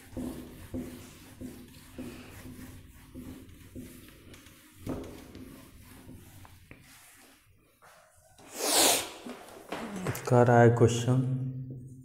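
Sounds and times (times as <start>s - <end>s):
cloth wiping a whiteboard: 0.0s - 9.8s.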